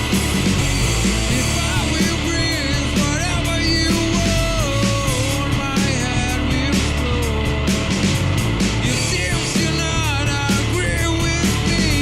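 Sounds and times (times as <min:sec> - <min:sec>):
grunge rock band playing: 0:00.0 - 0:12.0.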